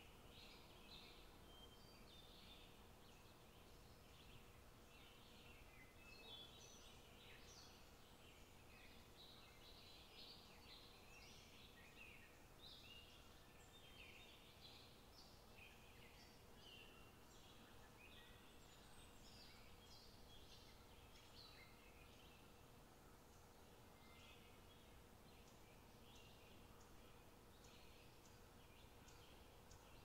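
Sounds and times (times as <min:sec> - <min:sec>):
faint birds chirping: 0:00.0 - 0:30.0
faint steady hum: 0:00.0 - 0:30.0.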